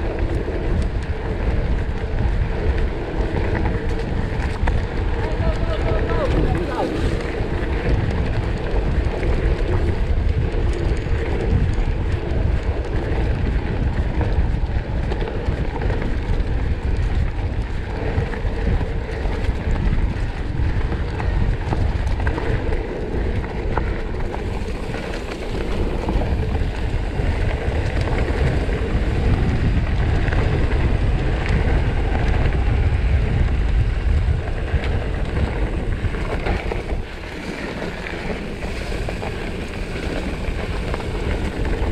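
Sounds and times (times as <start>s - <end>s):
bike rumble: 0.0s - 41.9s
wind buffeting microphone: 0.0s - 41.9s.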